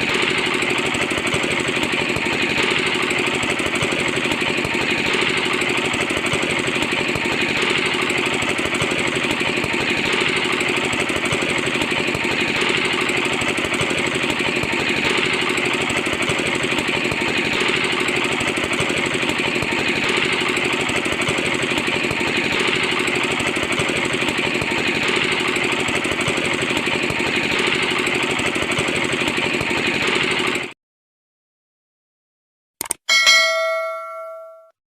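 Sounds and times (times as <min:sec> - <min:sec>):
small engine clattering: 0:00.0 - 0:30.8.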